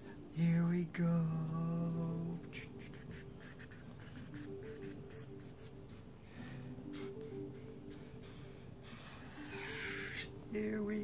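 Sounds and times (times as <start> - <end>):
faint melody of held notes: 0.0 - 11.0.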